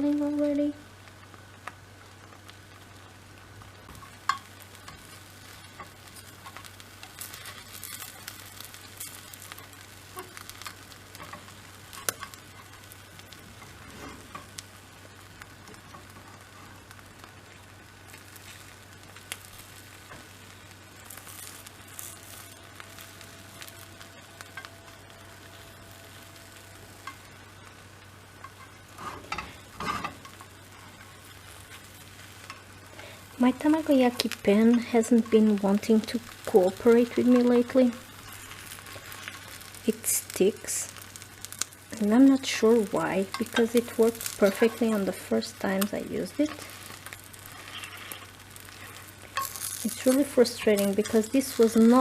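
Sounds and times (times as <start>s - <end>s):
egg sizzling in a pan: 0.0s - 52.0s.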